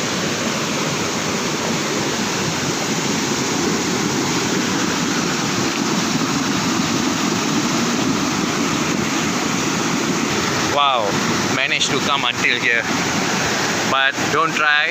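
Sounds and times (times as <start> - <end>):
waterfall rushing water: 0.0 - 14.9.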